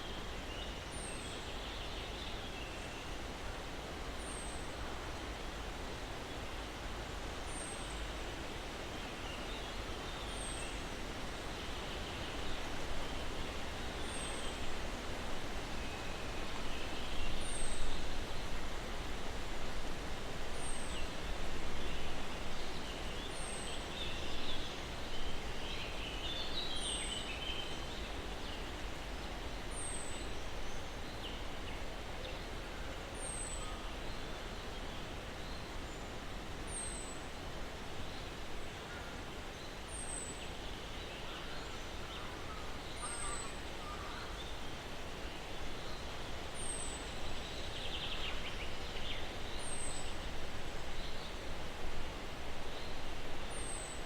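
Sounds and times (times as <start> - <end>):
soft twittering birdsong: 9.0 - 54.0.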